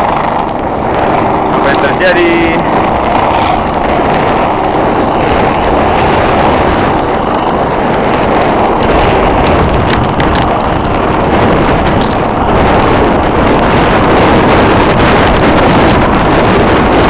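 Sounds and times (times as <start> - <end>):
helicopter rotor and engine roar: 0.0 - 17.0
wind on microphone: 0.0 - 17.0.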